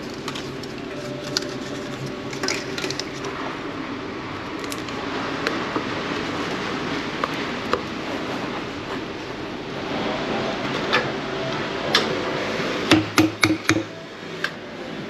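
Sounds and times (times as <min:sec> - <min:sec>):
cafe machinery hum: 0:00.0 - 0:15.0.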